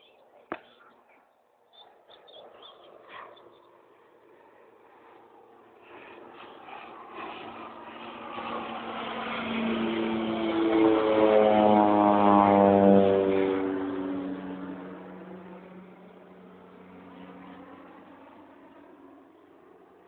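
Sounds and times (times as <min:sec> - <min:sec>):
propeller airplane passing low: 0:00.0 - 0:20.0.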